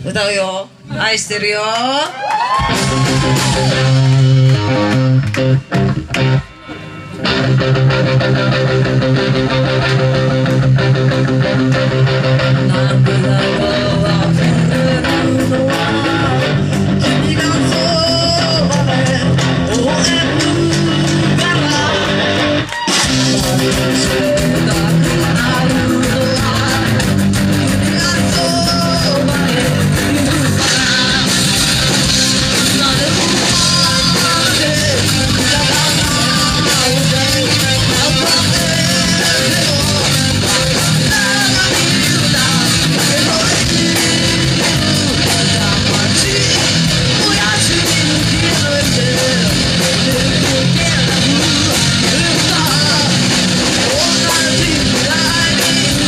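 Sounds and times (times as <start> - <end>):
person singing lead vocals: 0.0 - 6.4, 7.2 - 56.0
distorted electric guitar: 0.0 - 56.0
drum kit: 2.4 - 56.0
electric bass: 2.4 - 56.0.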